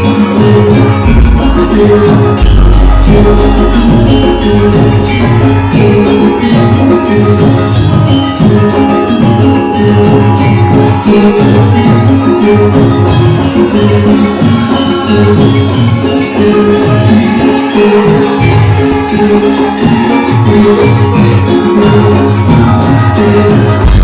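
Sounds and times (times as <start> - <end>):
gamelan music: 0.0 - 24.0
jingling percussion strokes: 0.0 - 24.0.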